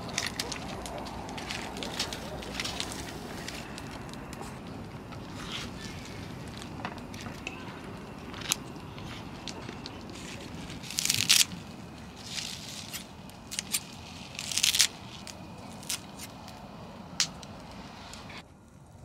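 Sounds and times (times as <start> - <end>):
crinkling plastic wrap: 0.0 - 16.6
steady low hiss: 0.0 - 19.0.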